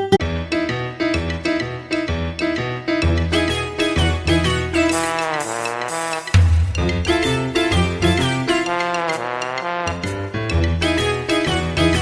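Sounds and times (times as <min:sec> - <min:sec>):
upbeat keyboard music with beat: 0:00.0 - 0:12.0.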